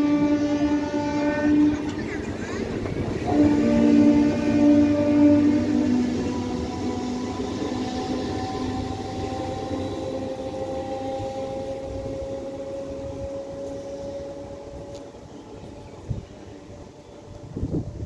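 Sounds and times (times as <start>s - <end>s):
electric train motor whine: 0.0s - 18.0s
train wheels rumbling: 0.0s - 18.0s.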